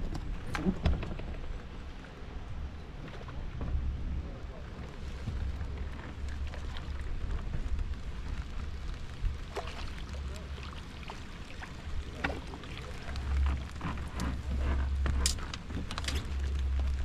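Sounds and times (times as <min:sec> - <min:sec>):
water splashing against boat: 0:00.0 - 0:17.0.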